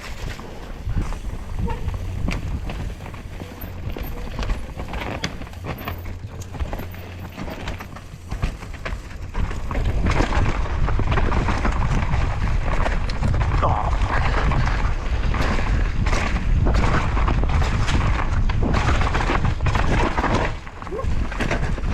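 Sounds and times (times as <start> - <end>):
low rumble: 0.0 - 19.9
bike clattering over bumps: 0.0 - 21.9
bike tyres on dirt: 0.0 - 21.9.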